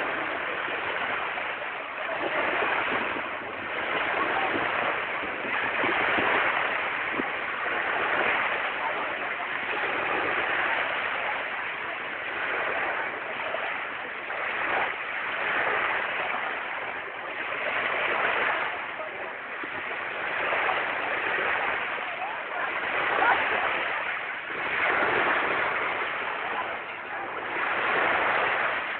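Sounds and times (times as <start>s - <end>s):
small waves washing on sand: 0.0s - 28.9s.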